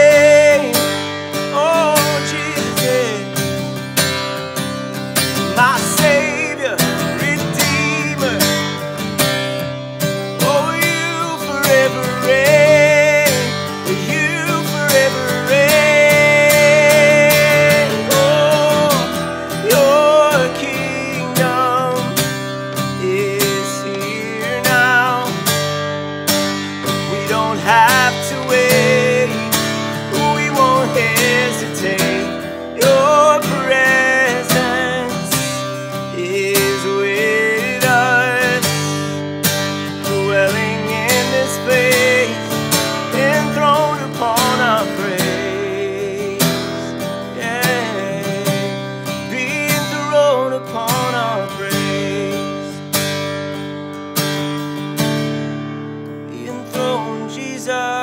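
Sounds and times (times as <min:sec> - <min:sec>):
man singing worship song: 0:00.0 - 0:03.4, 0:05.5 - 0:08.8, 0:10.4 - 0:25.5, 0:26.8 - 0:39.2, 0:40.0 - 0:52.9, 0:56.3 - 0:58.0
acoustic guitar strumming: 0:00.0 - 0:58.0.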